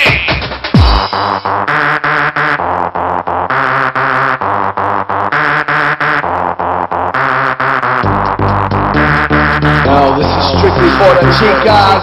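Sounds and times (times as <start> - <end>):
synth bass line: 0.0 - 12.0
synthesizer keyboard notes: 1.1 - 12.0.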